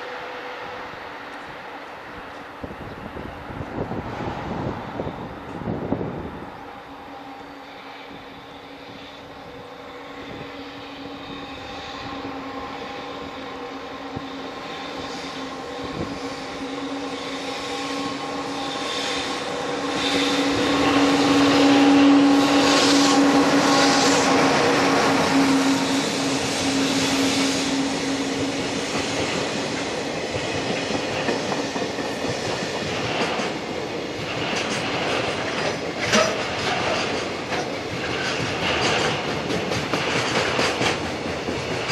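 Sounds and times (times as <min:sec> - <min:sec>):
electric locomotive hum: 0:00.0 - 0:41.9.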